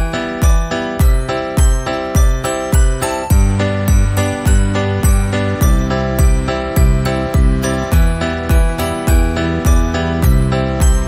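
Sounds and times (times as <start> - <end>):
bright tinkling tones: 0.0 - 11.0
cheerful background music: 0.0 - 11.0
low thumping beat: 0.0 - 11.0.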